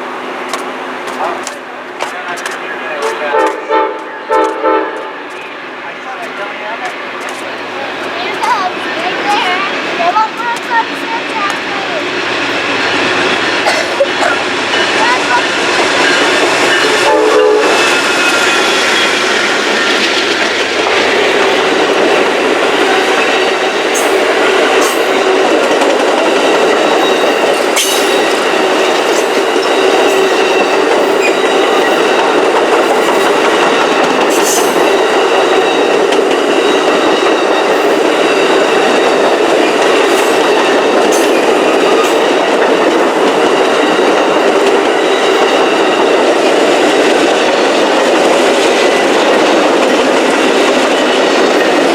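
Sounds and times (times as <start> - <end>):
train wheels rushing on rail: 0.0 - 51.9.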